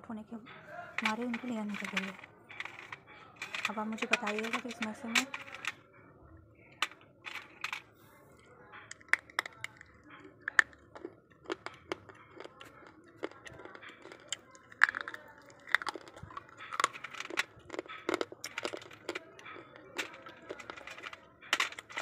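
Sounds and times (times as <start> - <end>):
dried pieces clicking and cracking: 0.7 - 5.9, 6.6 - 7.9, 8.7 - 22.0.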